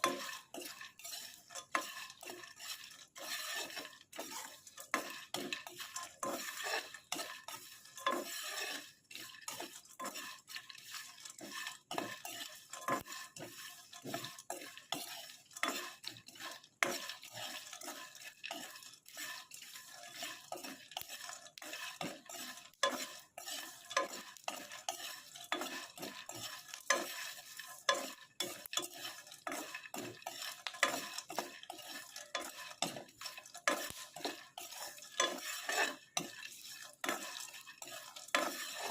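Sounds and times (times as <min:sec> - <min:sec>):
seeds scraping and rattling in pan: 0:00.0 - 0:38.9.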